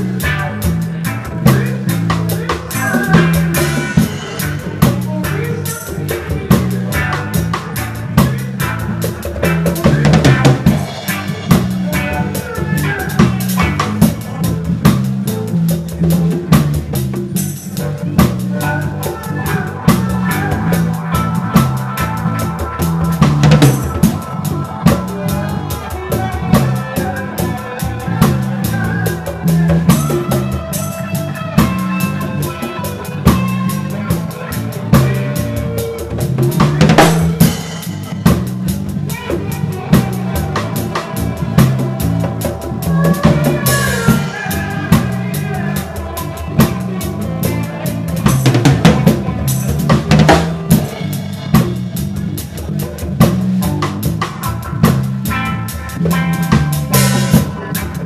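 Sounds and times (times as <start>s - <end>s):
bass line: 0.0s - 58.0s
drums with rimshots: 0.0s - 58.0s
reggae band playing live: 0.0s - 58.0s.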